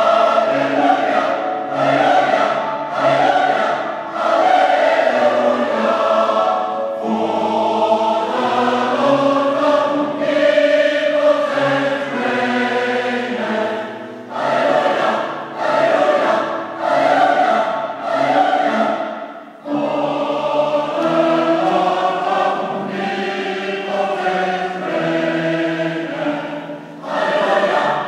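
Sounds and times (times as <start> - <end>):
choir singing: 0.0 - 28.0.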